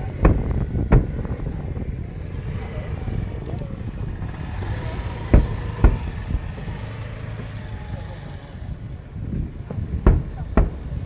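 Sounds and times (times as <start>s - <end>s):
fireworks exploding: 0.0s - 11.0s
steady low rumble: 0.0s - 11.0s.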